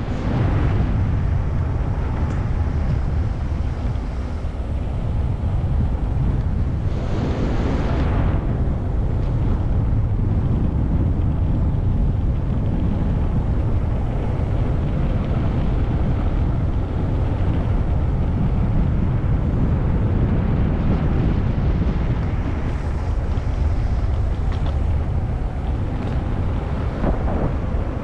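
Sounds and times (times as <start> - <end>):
road noise: 0.0 - 28.0
wind buffeting microphone: 0.0 - 28.0.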